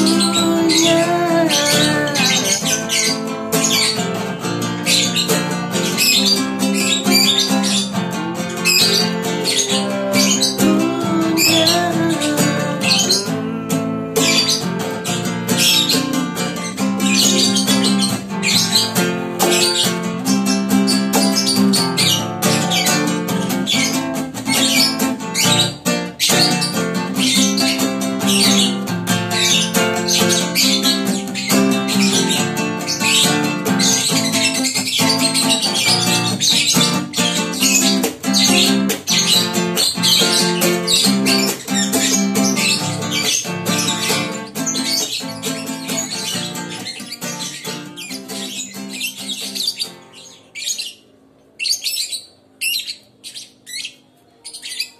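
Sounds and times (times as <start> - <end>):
acoustic guitar strumming: 0.0 - 52.4
lovebird squawking: 0.0 - 54.9.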